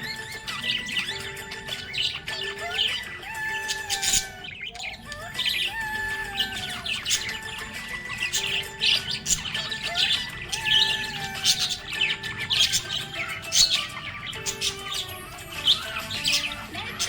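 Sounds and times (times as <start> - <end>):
background music with short melody: 0.0 - 17.0
budgerigars chirping and warbling: 0.0 - 17.0.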